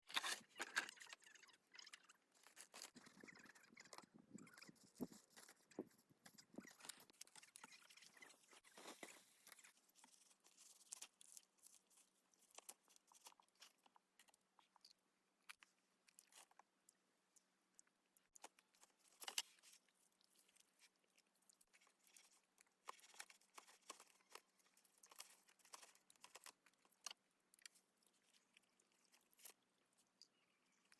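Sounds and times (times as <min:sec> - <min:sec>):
chewing and crunching: 0:00.0 - 0:30.9.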